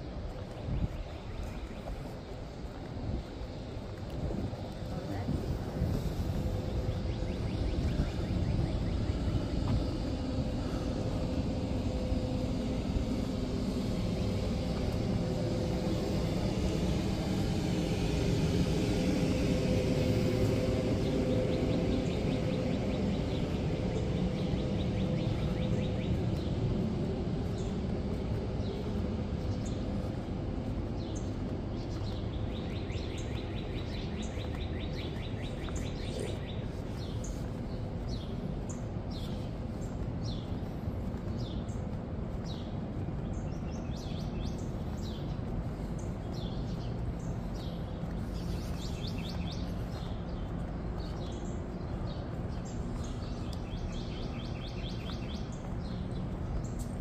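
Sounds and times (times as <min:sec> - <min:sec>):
birds chirping and trilling: 0:00.0 - 0:57.0
low outdoor rumble: 0:00.0 - 0:57.0.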